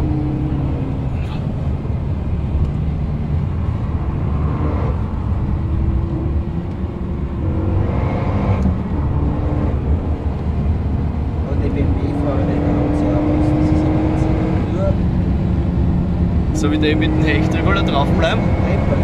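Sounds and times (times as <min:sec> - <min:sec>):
car engine accelerating: 0:00.0 - 0:19.0
road noise: 0:00.0 - 0:19.0.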